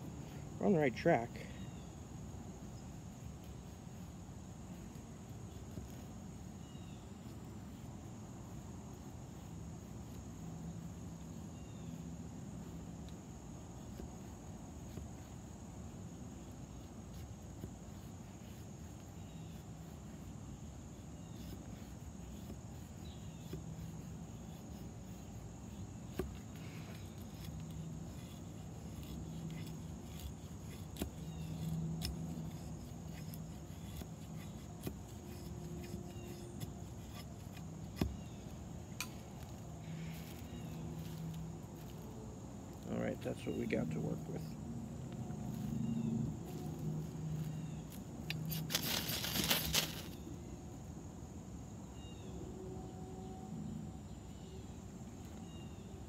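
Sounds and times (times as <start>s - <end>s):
knife shaving wood: 0.0s - 50.3s
crickets droning: 0.0s - 56.0s.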